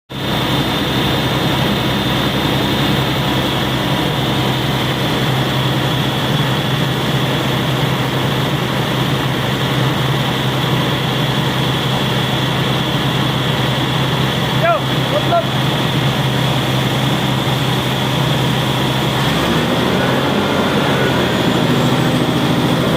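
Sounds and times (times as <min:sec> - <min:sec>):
diesel engine running: 0:00.1 - 0:22.9
high whine: 0:00.1 - 0:22.9.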